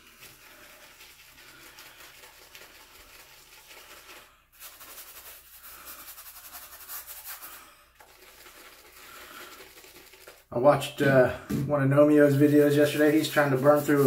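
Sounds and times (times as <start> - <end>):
shaving brush scrubbing: 0.0 - 10.5, 12.0 - 14.0.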